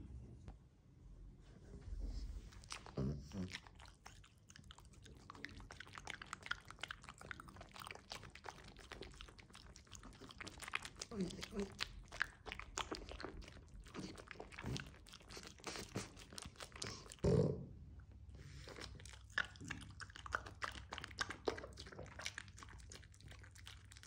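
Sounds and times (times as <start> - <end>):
dog licking and smacking: 2.4 - 17.3, 18.5 - 24.0.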